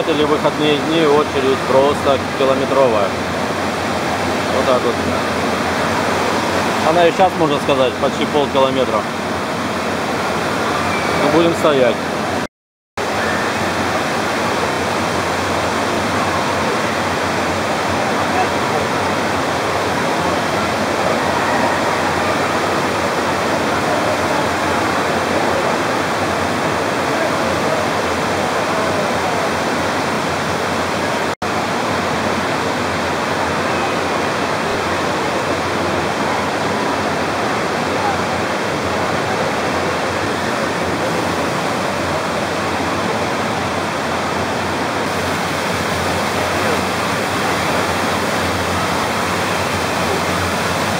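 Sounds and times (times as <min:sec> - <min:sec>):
water falling and splashing: 0:00.0 - 0:12.0, 0:13.0 - 0:50.9.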